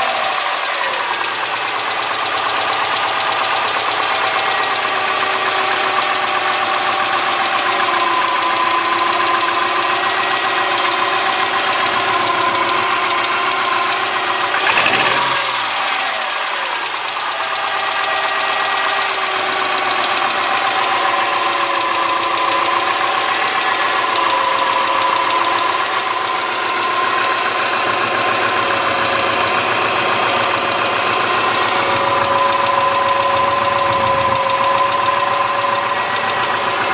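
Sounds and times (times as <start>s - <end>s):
car engine idling: 0.1s - 36.9s.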